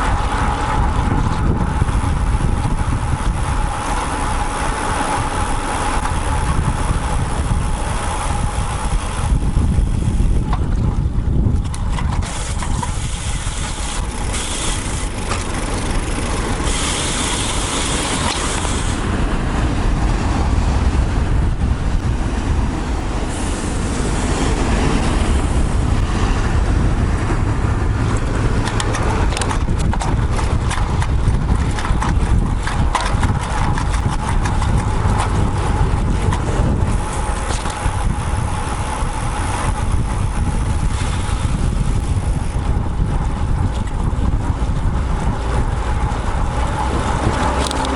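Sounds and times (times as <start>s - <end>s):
bike clicks and rattles: 0.0s - 22.2s, 26.6s - 47.9s
road rumble: 0.0s - 47.9s
wind buffeting: 0.0s - 47.9s.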